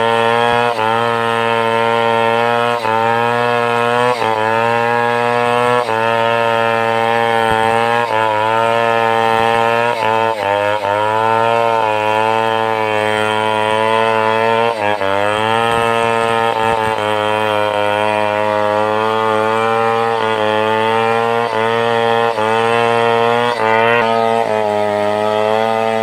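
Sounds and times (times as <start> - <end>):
chainsaw cutting timber: 0.0 - 26.0.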